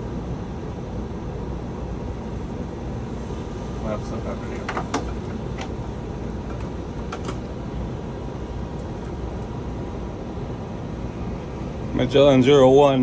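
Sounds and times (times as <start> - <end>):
air noise: 0.0 - 13.0
flight deck rumble: 0.0 - 13.0.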